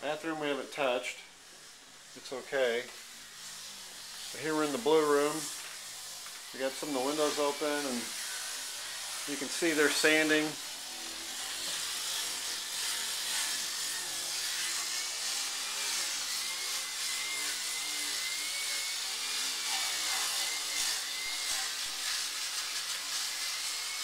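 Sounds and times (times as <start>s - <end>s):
electric sander on wood: 0.0s - 24.0s.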